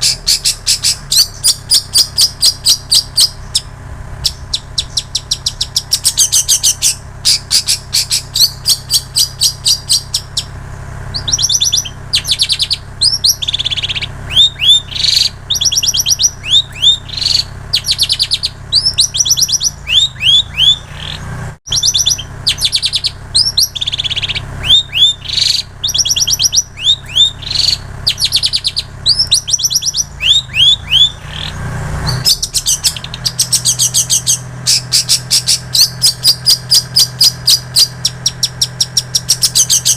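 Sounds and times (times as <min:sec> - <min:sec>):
bird singing trills and whistles: 0:00.0 - 0:39.9
steady low hum: 0:00.0 - 0:39.9.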